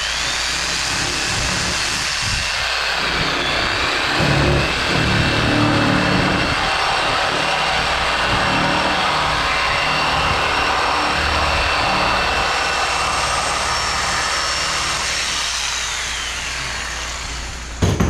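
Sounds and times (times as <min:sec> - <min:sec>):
jigsaw cutting foam board: 0:00.1 - 0:15.6.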